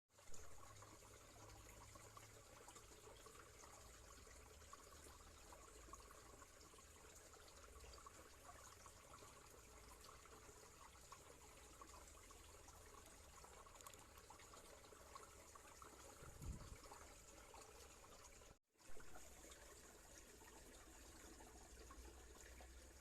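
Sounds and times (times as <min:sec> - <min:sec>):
stream water trickling: 0:00.1 - 0:23.0.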